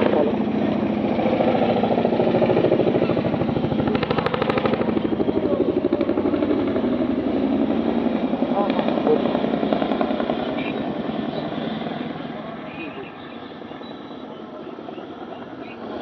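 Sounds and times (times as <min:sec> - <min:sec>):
helicopter rotors chopping: 0:00.0 - 0:16.0.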